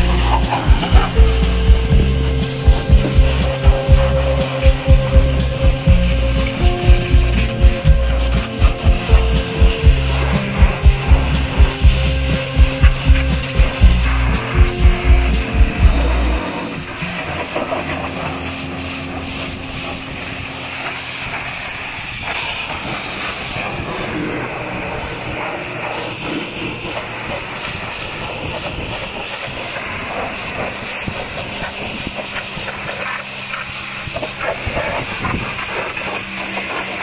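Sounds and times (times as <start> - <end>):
pressure washer jet hissing: 0.0 - 37.0.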